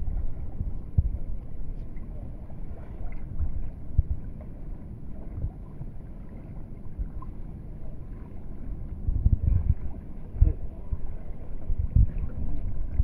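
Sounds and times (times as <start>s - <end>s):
wind buffeting microphone: 0.0s - 4.5s, 5.1s - 13.0s
sea water washing around boat: 0.0s - 13.0s.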